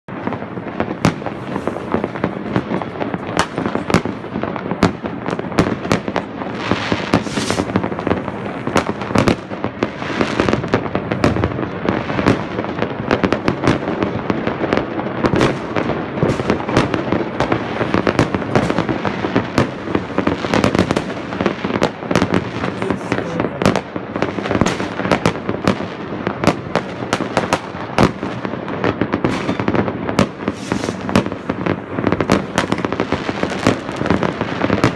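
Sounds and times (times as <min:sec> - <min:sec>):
distant popping and crackling: 0:00.1 - 0:34.9
firework bangs: 0:00.1 - 0:34.9.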